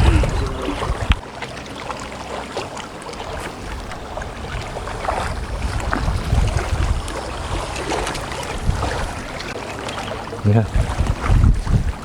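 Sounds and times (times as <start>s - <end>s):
wind buffeting microphone: 0.0s - 1.7s, 2.9s - 12.0s
small waves splashing at shore: 0.0s - 12.0s.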